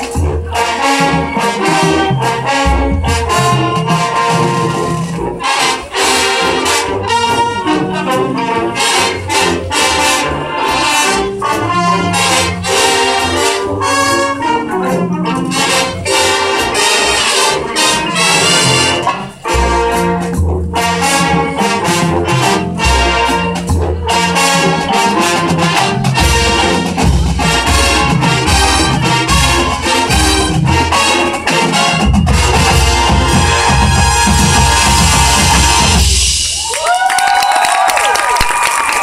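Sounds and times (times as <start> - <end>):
marching band playing: 0.0 - 37.6.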